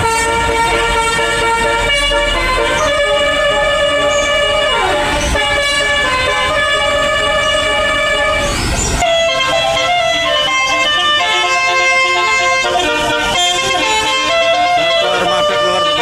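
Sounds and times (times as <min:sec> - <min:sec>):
multi-tone musical air horn: 0:00.0 - 0:16.0.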